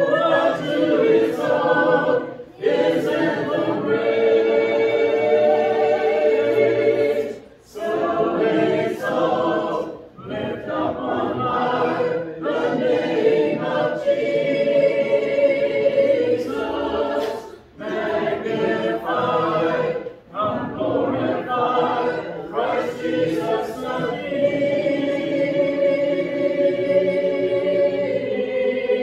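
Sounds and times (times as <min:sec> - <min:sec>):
congregation singing a hymn: 0:00.0 - 0:29.0.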